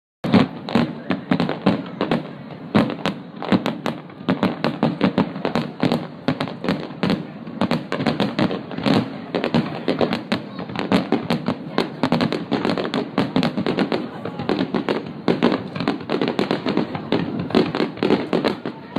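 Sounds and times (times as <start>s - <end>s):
fireworks bangs and crackles: 0.2s - 18.9s
rumble of fireworks bursts: 0.2s - 18.9s.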